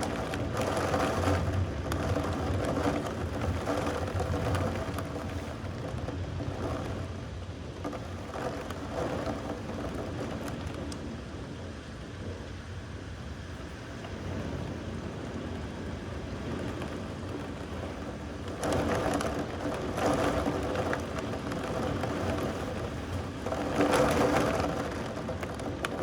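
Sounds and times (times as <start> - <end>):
steady rain with low rumble: 0.0 - 26.0.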